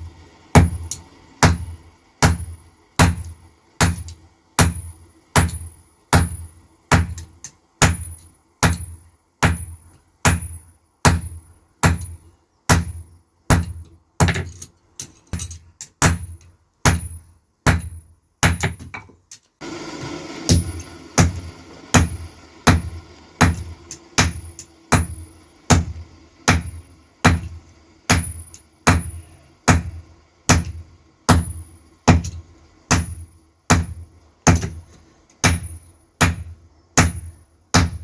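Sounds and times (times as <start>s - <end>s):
hammer striking iron on anvil: 0.5s - 14.6s, 15.3s - 19.1s, 20.5s - 34.8s, 35.4s - 38.0s.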